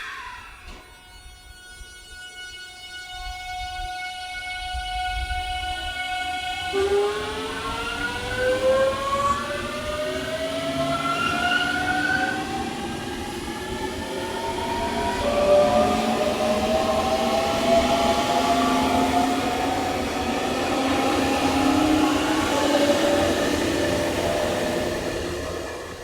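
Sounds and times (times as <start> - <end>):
train traction motors whining: 0.0 - 26.0.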